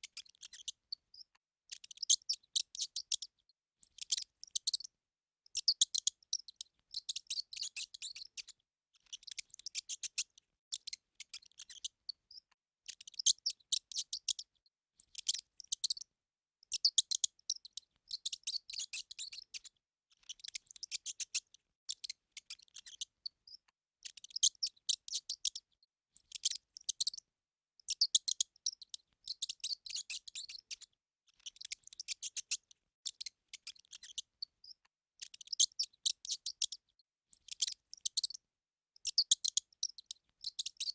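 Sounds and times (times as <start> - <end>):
hamster squeaking: 0.0 - 4.9, 5.5 - 27.2, 27.8 - 38.4, 39.0 - 40.9.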